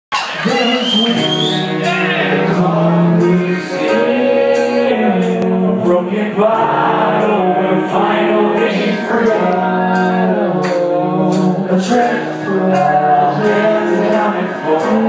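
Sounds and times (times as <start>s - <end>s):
live band playing: 0.1s - 15.0s
men singing held notes: 0.4s - 15.0s.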